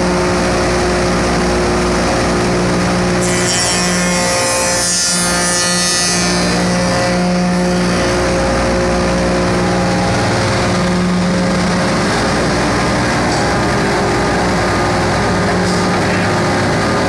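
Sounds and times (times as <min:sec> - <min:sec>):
woodworking machine humming: 0:00.0 - 0:17.0.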